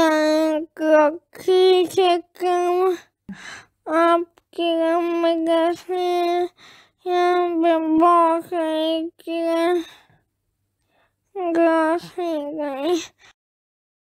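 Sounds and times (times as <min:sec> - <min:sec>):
child singing unaccompanied: 0:00.0 - 0:03.1, 0:03.8 - 0:10.1, 0:11.3 - 0:13.4.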